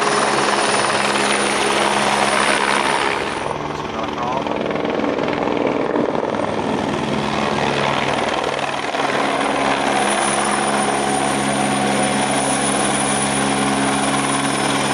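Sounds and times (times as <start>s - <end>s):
helicopter rotor and engine: 0.0s - 14.9s
high whine: 0.0s - 14.9s.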